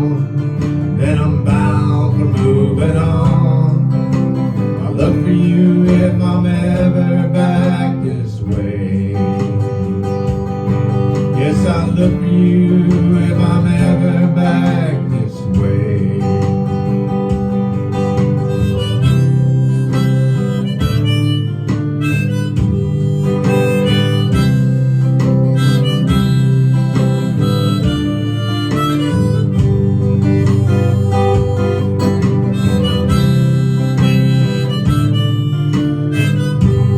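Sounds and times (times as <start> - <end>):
harmonica melody: 0.0 - 36.9
strummed acoustic guitar: 0.0 - 36.9.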